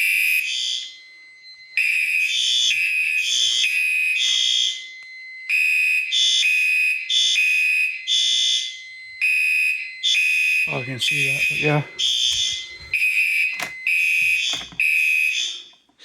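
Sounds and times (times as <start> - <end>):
fire alarm horns pulsing: 0.0 - 16.0.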